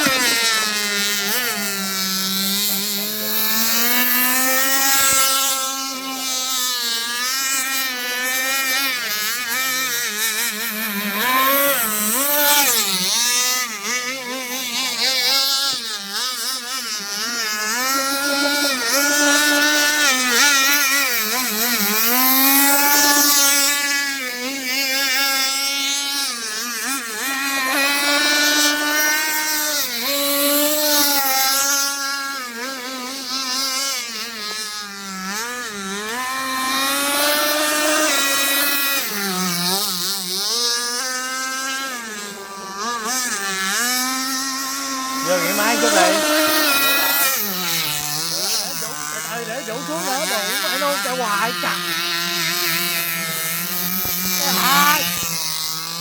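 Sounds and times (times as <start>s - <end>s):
small petrol engine revving: 0.0s - 14.0s, 17.2s - 32.8s, 34.5s - 56.0s.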